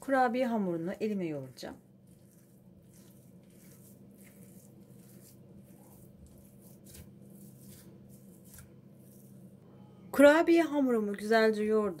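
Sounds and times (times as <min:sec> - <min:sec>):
hand kneading cookie dough: 0:00.0 - 0:09.6.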